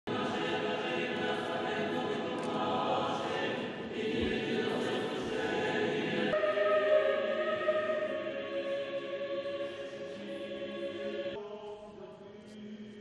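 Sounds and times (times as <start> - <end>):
choir singing unaccompanied chant: 0.1 - 13.0.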